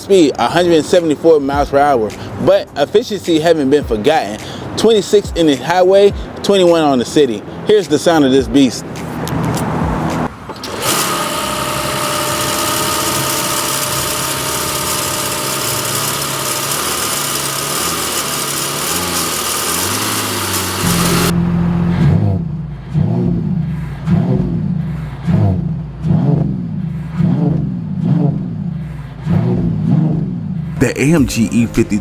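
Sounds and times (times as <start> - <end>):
engine revving: 0.0 - 30.8
car engine starting and idling: 0.0 - 32.0.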